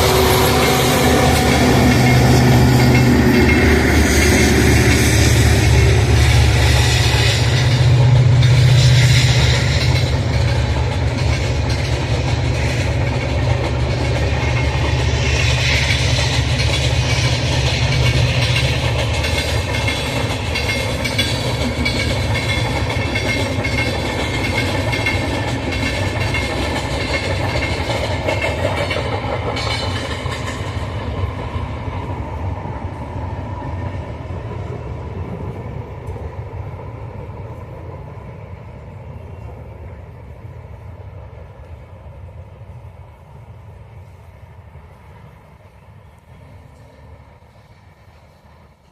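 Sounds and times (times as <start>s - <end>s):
train wheels clattering on rails: 0.0s - 43.2s.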